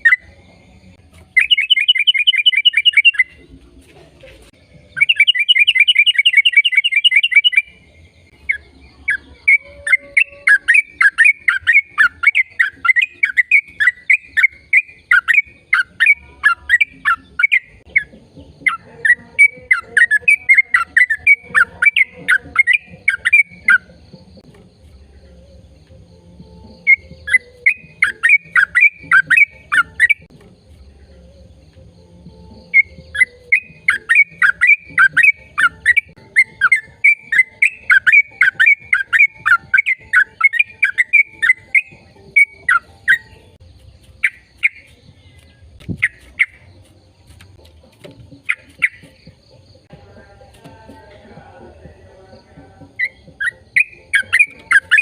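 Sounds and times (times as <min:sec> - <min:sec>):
bird calling sharp notes: 0:01.3 - 0:03.4, 0:05.0 - 0:24.5, 0:26.7 - 0:30.3, 0:32.6 - 0:49.5, 0:52.9 - 0:55.0.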